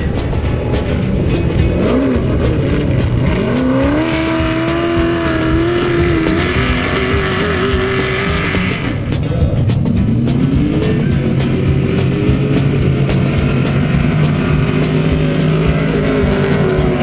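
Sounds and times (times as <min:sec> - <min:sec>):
background music: 0:00.0 - 0:17.0
race vehicle engine revving hard: 0:00.0 - 0:17.0.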